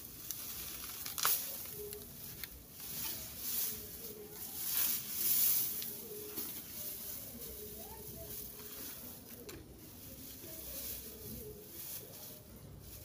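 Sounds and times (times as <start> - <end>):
dry grass rustling and crackling: 0.0 - 13.0.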